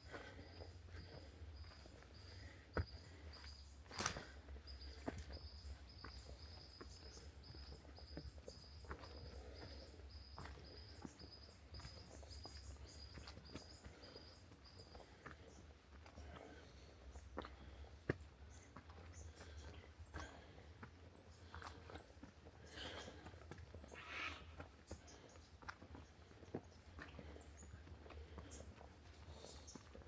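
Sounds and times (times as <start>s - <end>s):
footsteps on a trail: 0.0s - 30.0s.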